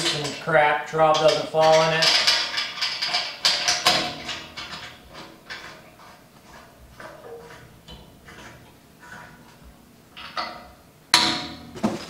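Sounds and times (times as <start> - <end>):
metal fittings clicking: 0.0 - 11.6.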